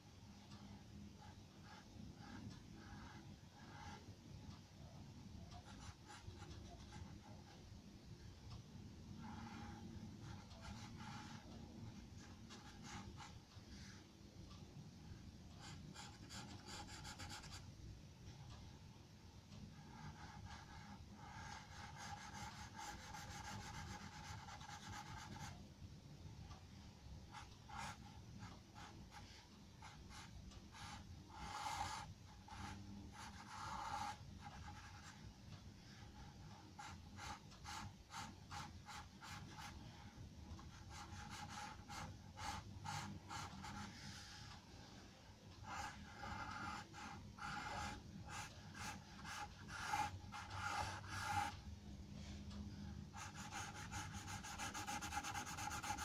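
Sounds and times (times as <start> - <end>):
pencil scratching on paper: 0.6 - 4.1, 5.5 - 7.6, 9.2 - 14.0, 15.6 - 17.7, 19.7 - 25.6, 27.3 - 35.3, 35.9 - 51.7, 53.1 - 56.0.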